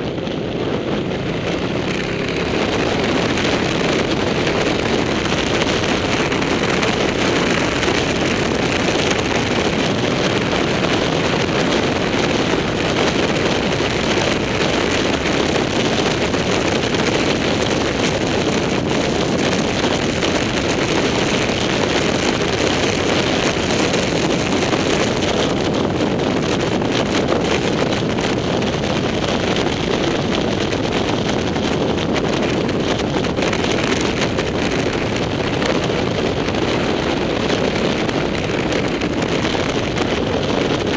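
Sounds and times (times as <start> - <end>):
motorcycle engine: 0.0 - 40.9
wind rush over microphone: 0.0 - 40.9.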